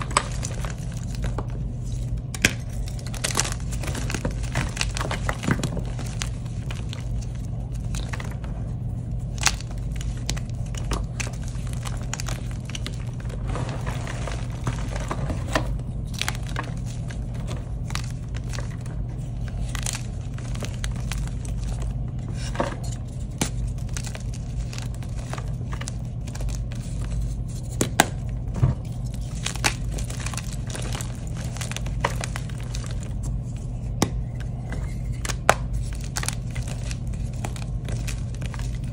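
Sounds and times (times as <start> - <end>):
chalk pieces snapping: 0.0 - 13.4, 14.0 - 38.9
chalk crunching and crackling: 0.0 - 38.9
low hum: 0.0 - 38.9.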